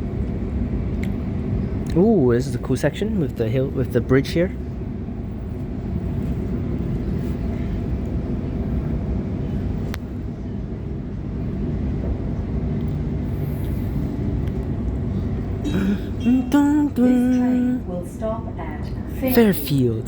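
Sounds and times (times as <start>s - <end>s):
train wheels rumbling on rail: 0.0s - 16.5s.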